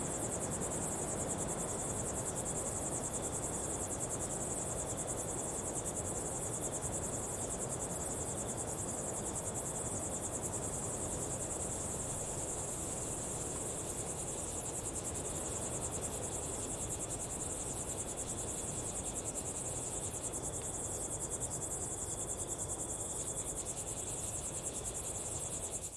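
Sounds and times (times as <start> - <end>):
low background hiss: 0.0 - 25.9.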